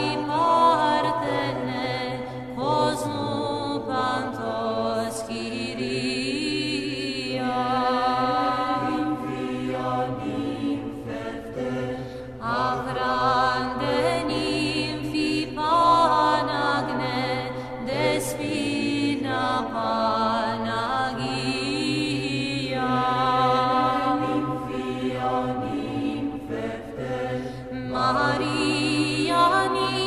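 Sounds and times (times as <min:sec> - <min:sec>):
voices chanting: 0:02.6 - 0:30.0.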